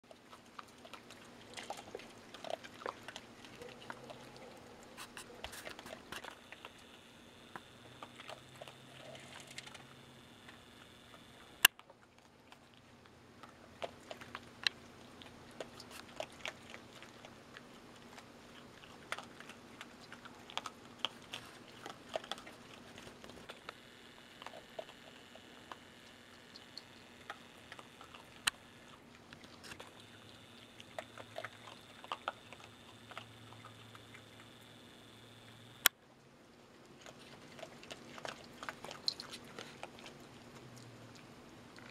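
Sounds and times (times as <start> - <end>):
animals crunching kibble: 0.0 - 41.9
faint steady hum: 0.0 - 41.9.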